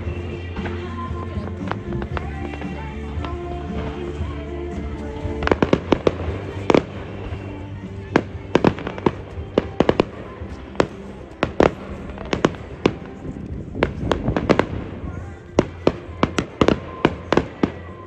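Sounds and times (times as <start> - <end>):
music playing: 0.0 - 18.0.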